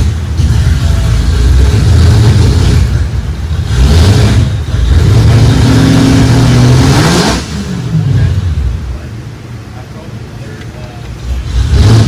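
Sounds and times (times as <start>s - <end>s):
loud engine running: 0.0s - 12.0s.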